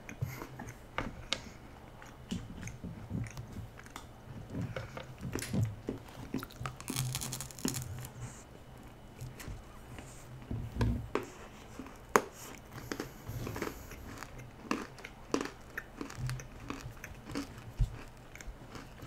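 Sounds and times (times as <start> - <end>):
chewing hard gingerbread: 0.0 - 9.4, 11.2 - 19.0.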